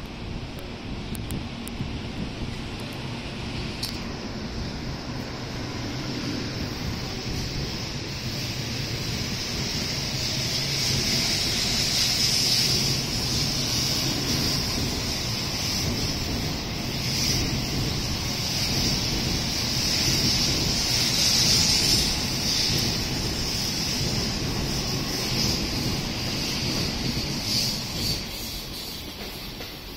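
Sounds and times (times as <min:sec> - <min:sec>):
train rushing past with high hiss: 0:00.0 - 0:29.9.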